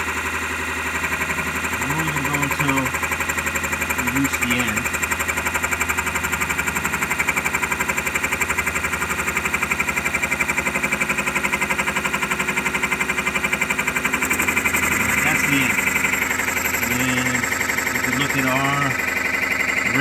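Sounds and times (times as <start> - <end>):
lathe cutting with rapid pulsing: 0.0 - 20.0.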